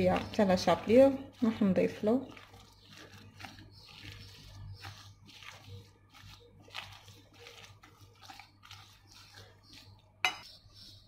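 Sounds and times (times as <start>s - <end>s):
spatula squelching thick mixture: 0.0s - 11.0s.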